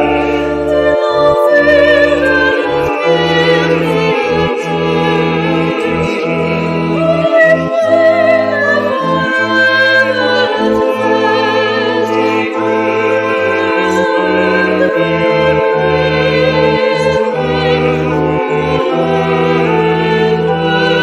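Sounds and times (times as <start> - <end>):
singer holding long vibrato notes: 0.0 - 21.0
sustained accompaniment: 0.0 - 21.0.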